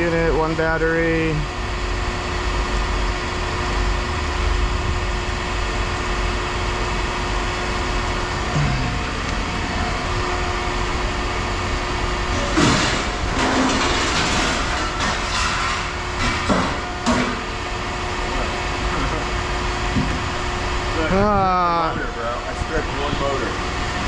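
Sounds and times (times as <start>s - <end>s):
low mechanical rumble: 0.0s - 24.0s.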